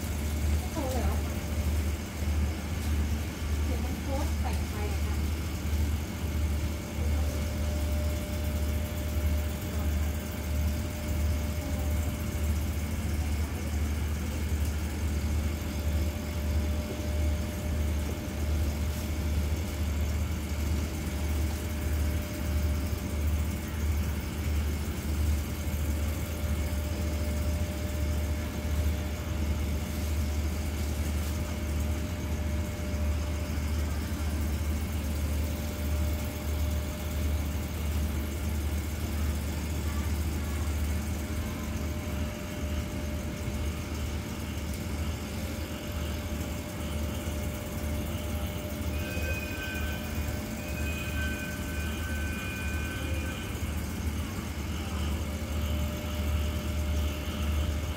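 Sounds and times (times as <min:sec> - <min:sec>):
diesel train engine idling: 0:00.0 - 0:57.9
faint steady whine: 0:00.0 - 0:57.9.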